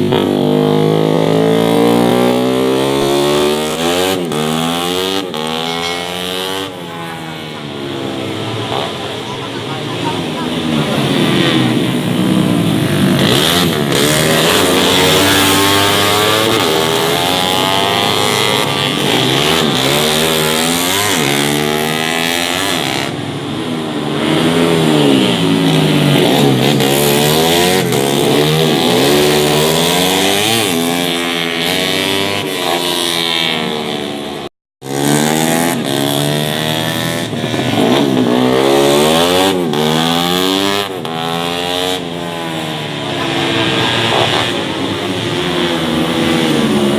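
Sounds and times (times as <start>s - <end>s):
racing motorcycles revving past: 0.0s - 46.9s.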